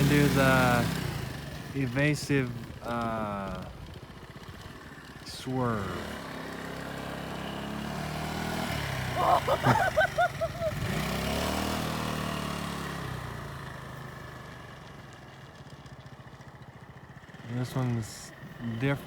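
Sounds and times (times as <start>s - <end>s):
motorcycle engine passing by: 0.0s - 19.0s.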